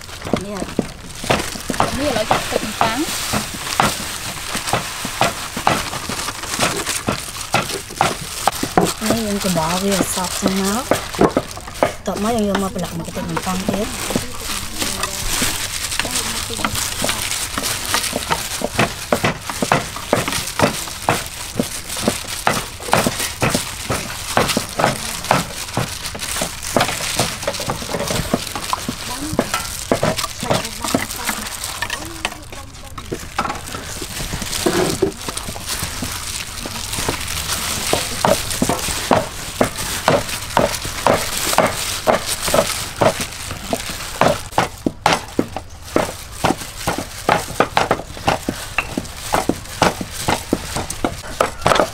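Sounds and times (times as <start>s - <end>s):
breadcrumbs crunching in metal tray: 0.0s - 51.9s.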